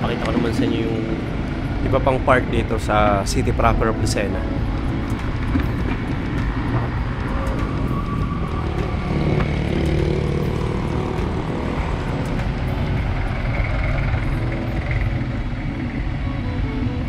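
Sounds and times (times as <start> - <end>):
nearby motor traffic: 0.0 - 17.0
wind rumble on microphone: 0.0 - 17.0.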